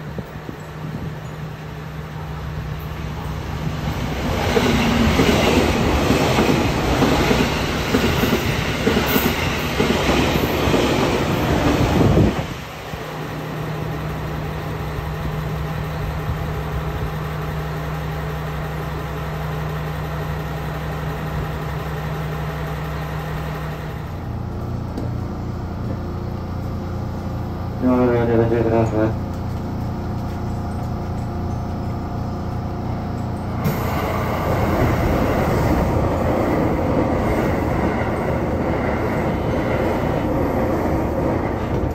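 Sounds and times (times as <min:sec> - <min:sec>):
train passing on rails: 0:00.0 - 0:41.9.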